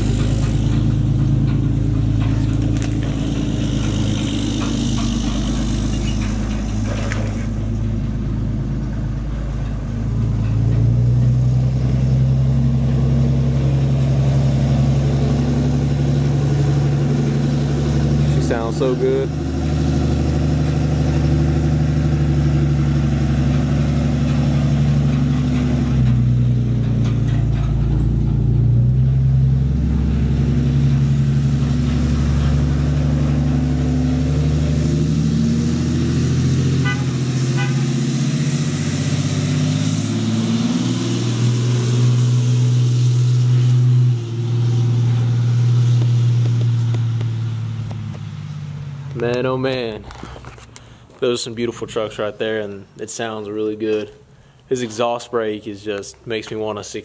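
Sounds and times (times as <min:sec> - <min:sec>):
diesel pickup engine running: 0:00.0 - 0:56.8.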